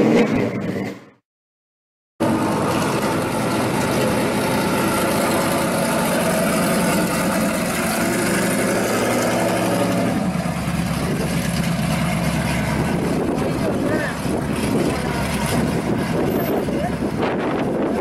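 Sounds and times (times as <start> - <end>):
car engine driving off: 2.2 - 18.0.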